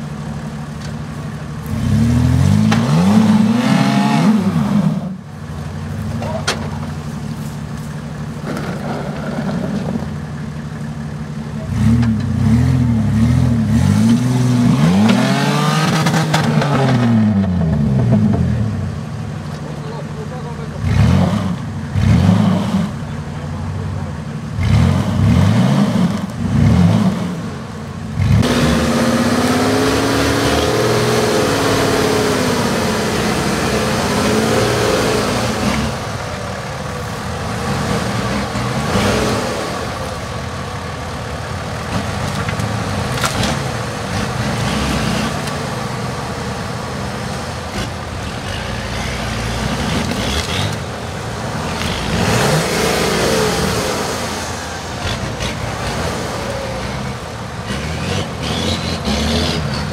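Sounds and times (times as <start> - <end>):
off-road engines revving: 0.0 - 59.9.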